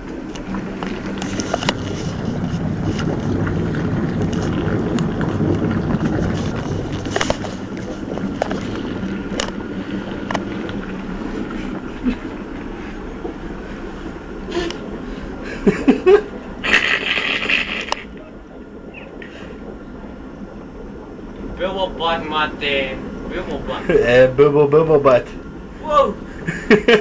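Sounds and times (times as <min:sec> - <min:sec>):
bubbling foaming water: 0:00.0 - 0:27.0
steady hum: 0:00.0 - 0:27.0.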